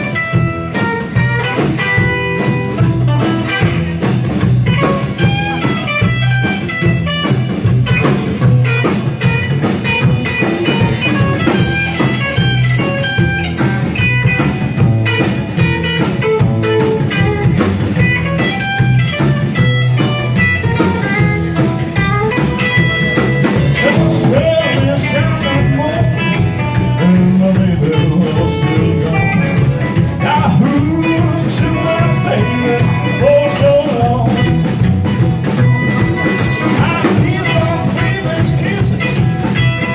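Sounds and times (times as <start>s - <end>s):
rockabilly band playing live: 0.0s - 39.9s.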